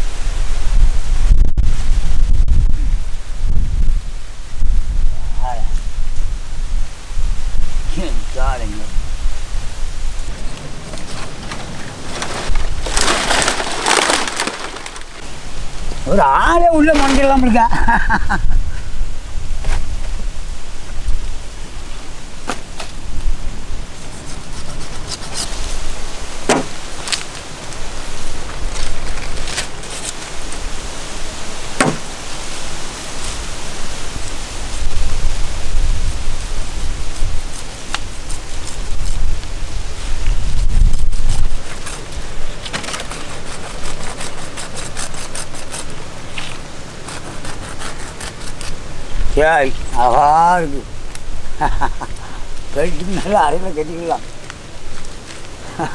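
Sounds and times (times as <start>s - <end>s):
wind on microphone: 0.0s - 55.9s.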